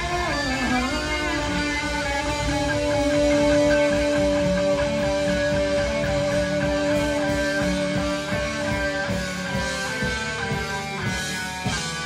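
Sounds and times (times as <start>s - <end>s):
electric guitar long steady note: 0.0s - 12.0s
live rock band playing: 0.0s - 12.0s.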